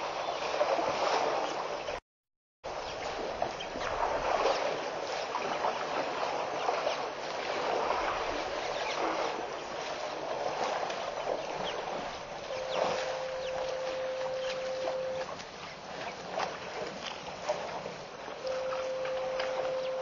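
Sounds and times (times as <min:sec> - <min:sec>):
water sloshing and splashing: 0:00.0 - 0:02.0, 0:02.7 - 0:20.0.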